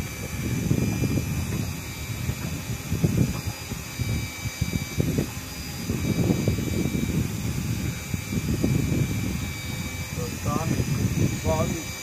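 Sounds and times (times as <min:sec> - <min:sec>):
electric fishing reel whine: 0:00.0 - 0:12.0
wind rumble: 0:00.0 - 0:12.0.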